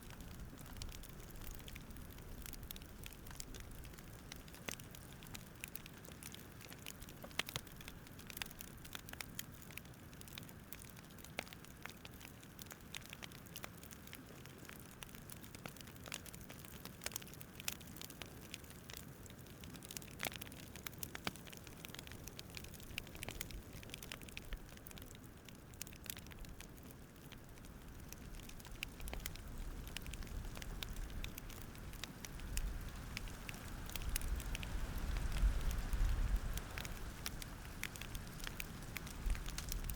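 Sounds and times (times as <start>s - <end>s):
campfire crackling and popping: 0.0s - 39.9s
soft steady hiss: 0.0s - 39.9s.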